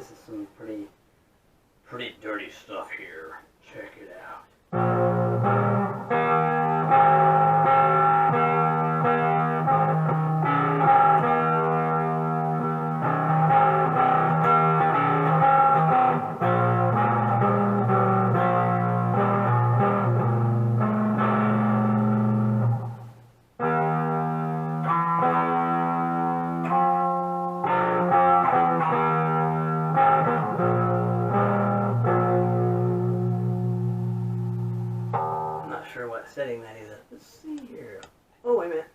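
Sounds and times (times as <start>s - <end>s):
distorted electric guitar: 4.7s - 35.8s.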